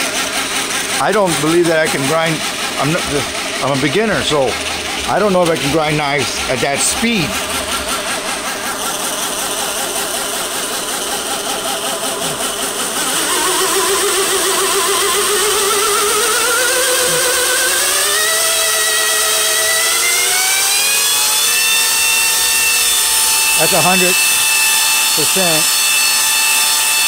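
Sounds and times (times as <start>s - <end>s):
belt grinder motor whine: 0.0s - 27.0s.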